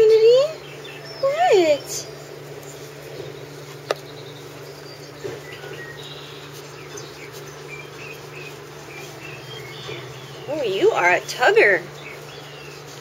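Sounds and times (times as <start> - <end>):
low buzzing hum: 0.0 - 13.0
rustling in wood shavings: 0.0 - 13.0.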